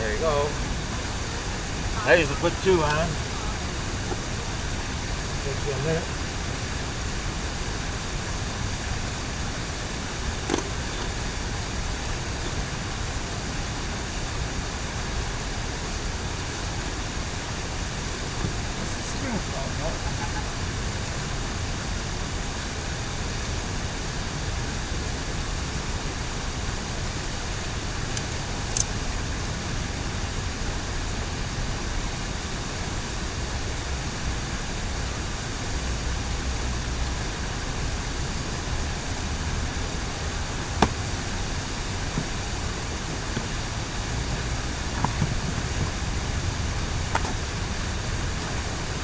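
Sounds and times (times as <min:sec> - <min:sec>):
background rumble and hiss: 0:00.0 - 0:49.0.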